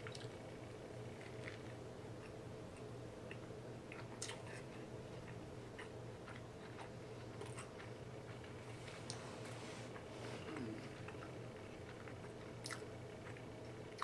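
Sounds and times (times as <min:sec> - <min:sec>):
faint steady hum: 0:00.0 - 0:14.0
person chewing: 0:01.2 - 0:09.2, 0:09.9 - 0:14.0.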